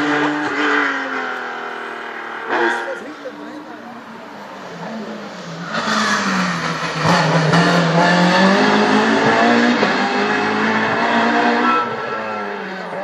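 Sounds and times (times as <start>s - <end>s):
rally car passing at speed: 0.0s - 13.0s.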